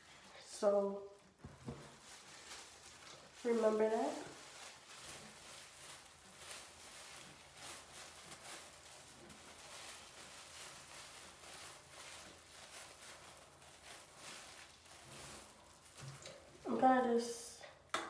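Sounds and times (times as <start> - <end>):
hair rustling and scratching: 0.0 - 17.2.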